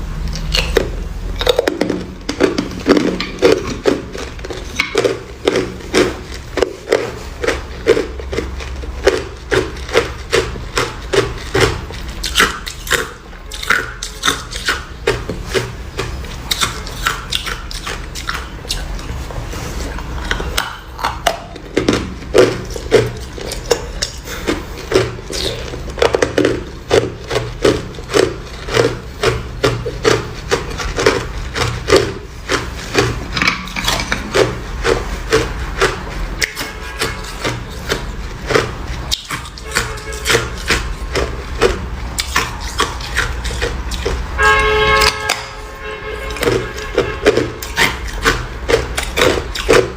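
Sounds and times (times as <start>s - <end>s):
person chewing ice: 0.0s - 49.9s.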